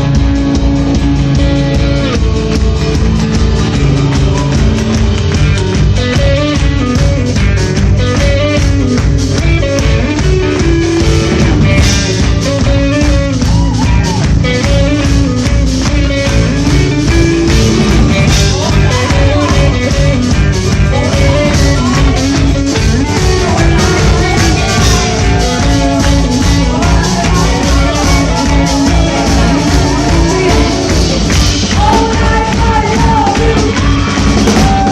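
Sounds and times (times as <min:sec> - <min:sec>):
live rock band playing: 0:00.0 - 0:34.9
steady drum beat: 0:00.0 - 0:34.9.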